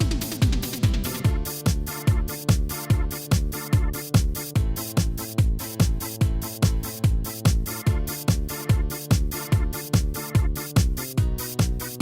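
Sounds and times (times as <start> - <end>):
held synth chords: 0.0 - 12.0
kick drum: 0.0 - 12.0.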